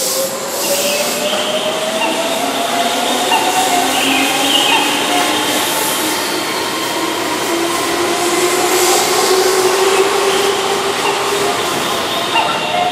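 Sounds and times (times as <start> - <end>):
train wheels rumbling on rail: 0.0 - 12.9
train whining tone: 0.0 - 12.9.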